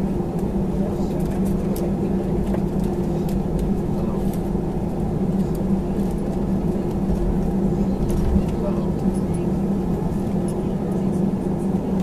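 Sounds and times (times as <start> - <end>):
jet engine hum: 0.0 - 12.0.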